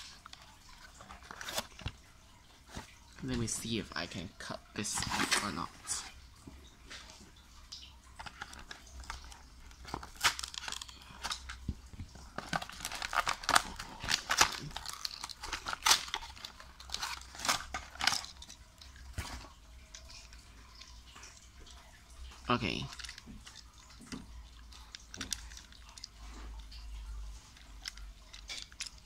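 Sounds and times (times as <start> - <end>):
cardboard packaging crinkling: 0.0 - 3.7, 8.1 - 21.8, 22.7 - 29.0.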